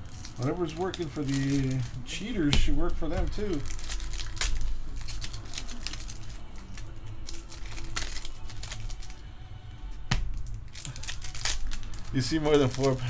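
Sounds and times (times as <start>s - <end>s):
background music: 0.0s - 13.0s
foil wrappers crinkling: 0.0s - 13.0s.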